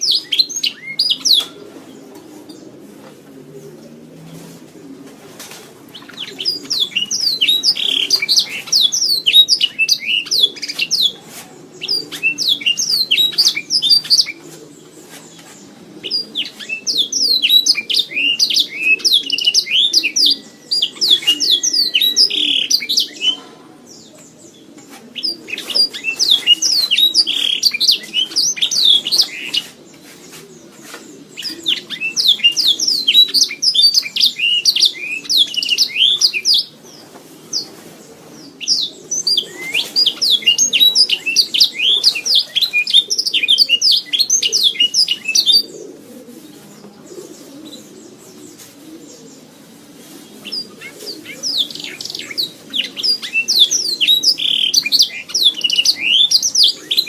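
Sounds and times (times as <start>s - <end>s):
canary singing trills: 0.0s - 2.7s, 5.9s - 37.7s, 38.4s - 45.9s, 50.4s - 57.0s.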